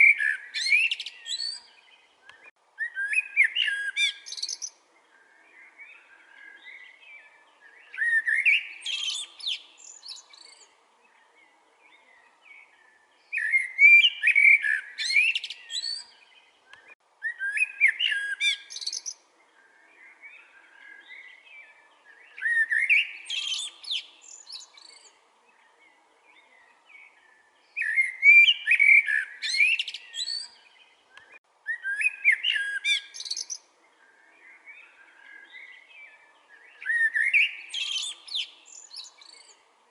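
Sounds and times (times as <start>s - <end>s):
blackbird singing: 0.0s - 39.6s
faint bird twittering: 0.0s - 39.6s.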